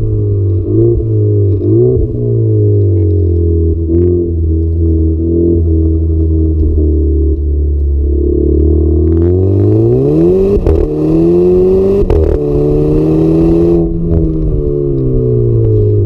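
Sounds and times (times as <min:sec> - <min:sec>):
car engine idling and revving: 0:00.0 - 0:16.0
exhaust cracks: 0:00.0 - 0:16.0.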